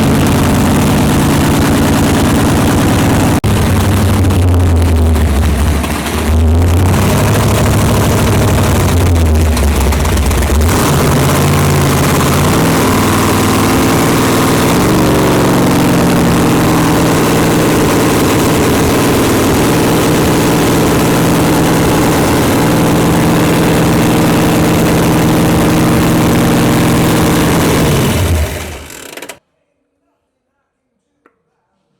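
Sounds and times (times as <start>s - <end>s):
car engine idling: 0.0s - 29.4s.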